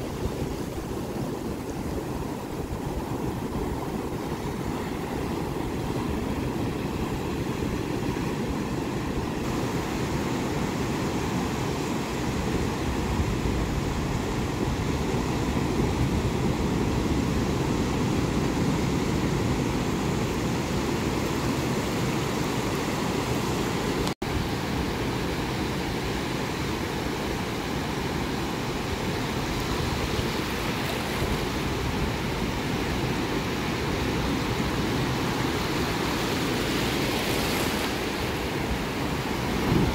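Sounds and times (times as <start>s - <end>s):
ocean surf breaking on beach: 0.0s - 39.9s
wind on microphone: 0.0s - 39.9s.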